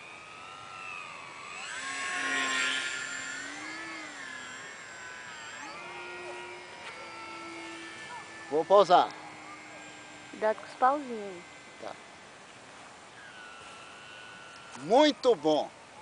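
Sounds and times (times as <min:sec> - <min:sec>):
model airplane motor whining: 0:00.0 - 0:16.0.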